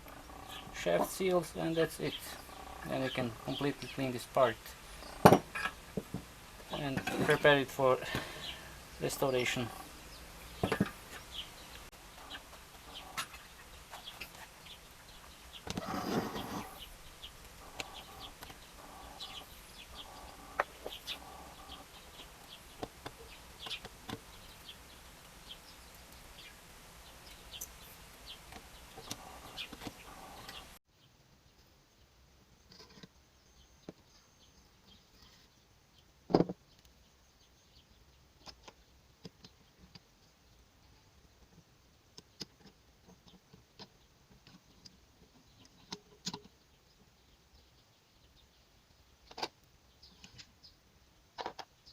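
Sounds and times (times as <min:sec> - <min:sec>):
background hiss: 0:00.0 - 0:51.9.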